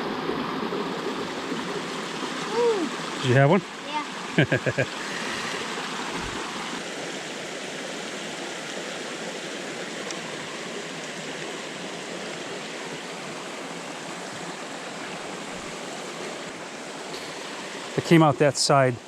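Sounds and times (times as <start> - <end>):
creek water rushing over rocks: 0.0 - 19.0.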